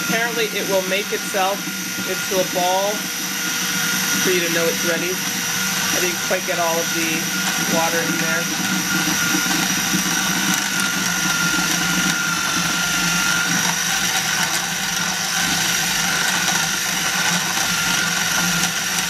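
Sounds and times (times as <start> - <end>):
food processor motor whining: 0.0 - 19.0.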